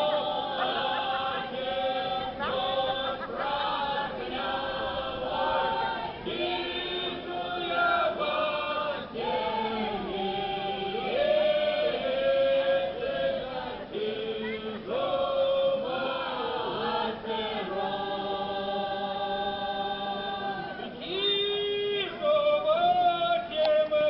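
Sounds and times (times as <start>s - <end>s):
folk choir singing a cappella: 0.0s - 24.0s.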